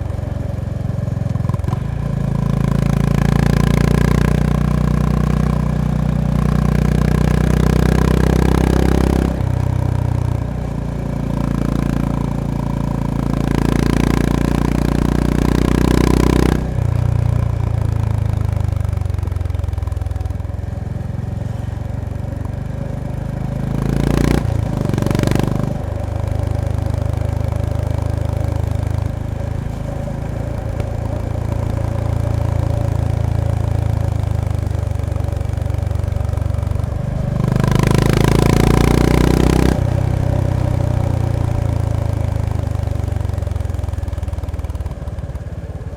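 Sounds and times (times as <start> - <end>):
motorcycle engine and exhaust: 0.0 - 45.9.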